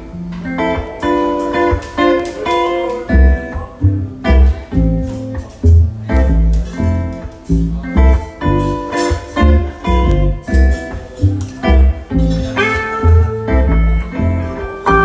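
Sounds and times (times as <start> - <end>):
electric guitar through amp: 0.0 - 15.0.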